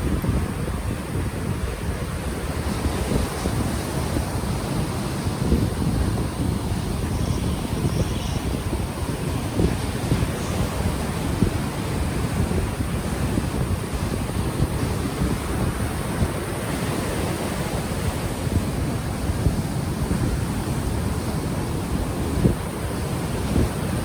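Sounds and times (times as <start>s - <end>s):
ocean waves washing ashore: 0.0s - 24.0s
wind buffeting microphone: 0.0s - 24.0s.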